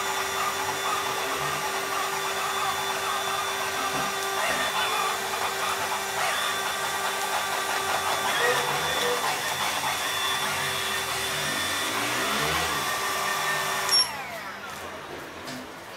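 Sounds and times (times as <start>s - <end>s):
robot vacuum motor whine: 0.0s - 14.9s.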